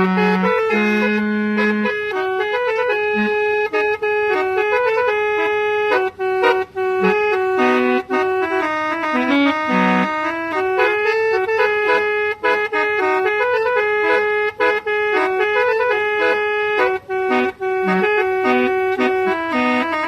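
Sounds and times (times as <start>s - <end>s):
musical car horn melody: 0.0s - 20.0s.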